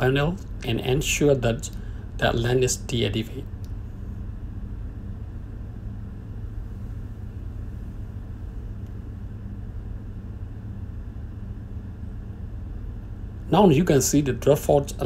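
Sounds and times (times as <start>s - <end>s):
engine room machinery rumble: 0.0s - 15.0s
faint steady hum: 0.0s - 15.0s.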